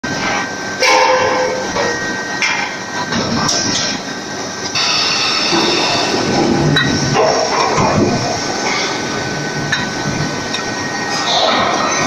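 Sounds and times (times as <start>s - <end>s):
dense machinery noise: 0.0s - 12.0s.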